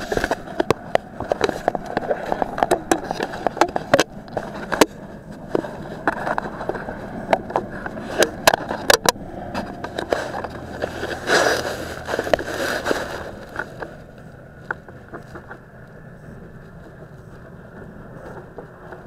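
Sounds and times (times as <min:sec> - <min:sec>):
handling clicks and knocks on camera: 0:00.0 - 0:15.7.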